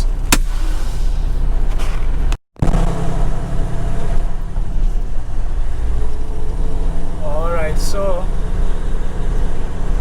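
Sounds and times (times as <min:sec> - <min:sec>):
road noise: 0:00.0 - 0:10.0
truck diesel engine rumble: 0:00.0 - 0:10.0.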